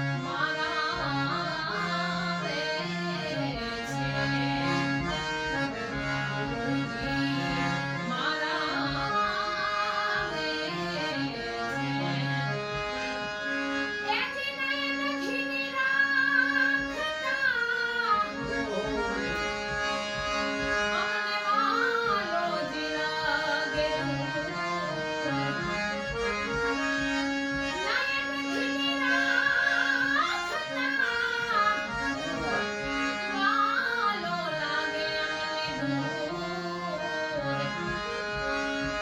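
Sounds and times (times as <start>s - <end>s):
devotional music: 0.0s - 39.0s.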